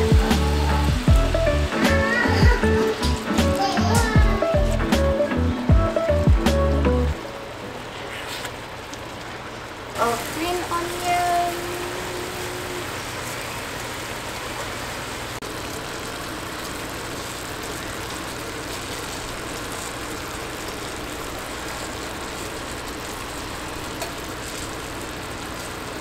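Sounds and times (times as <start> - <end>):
fish sizzling in a pan: 0.0 - 26.0.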